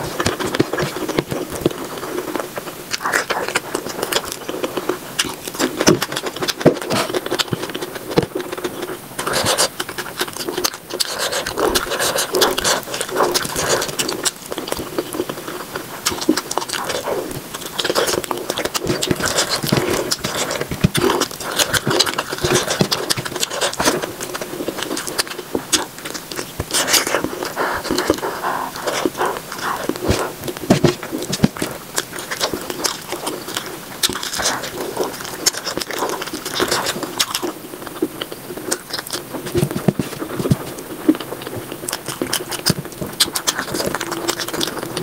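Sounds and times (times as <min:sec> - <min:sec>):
person chewing: 0:00.0 - 0:45.0
lip smacks and wet clicks: 0:00.2 - 0:45.0.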